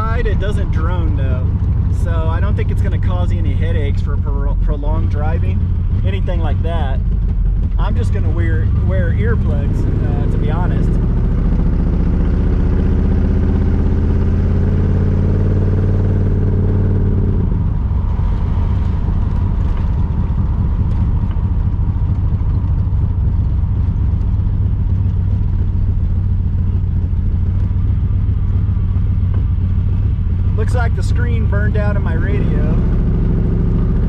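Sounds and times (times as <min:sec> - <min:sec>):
car engine and exhaust: 0:00.0 - 0:34.0.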